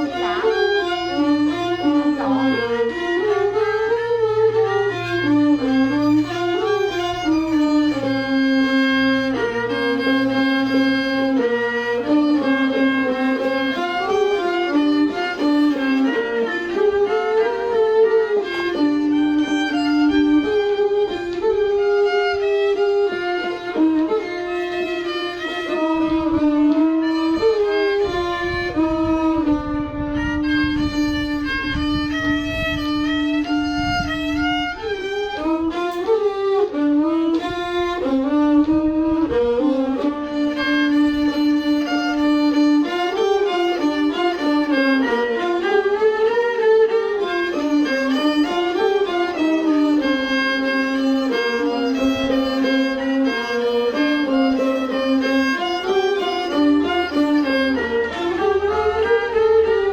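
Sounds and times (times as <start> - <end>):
solo bowed fiddle melody: 0.0 - 59.9.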